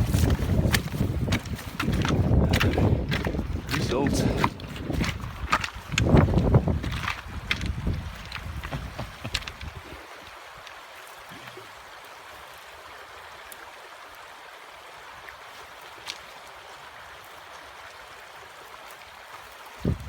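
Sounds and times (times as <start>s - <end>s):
river rushing over stones: 0.0s - 20.0s.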